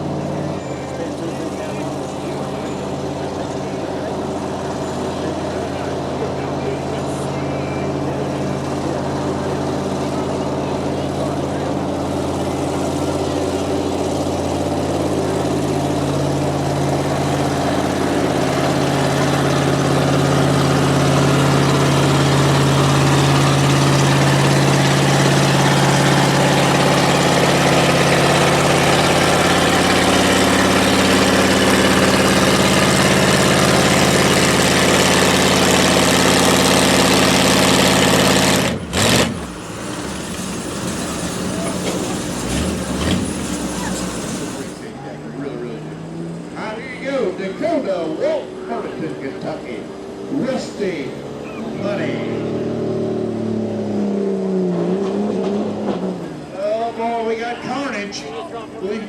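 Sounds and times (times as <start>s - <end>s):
engine running hard under load: 0.0s - 57.6s.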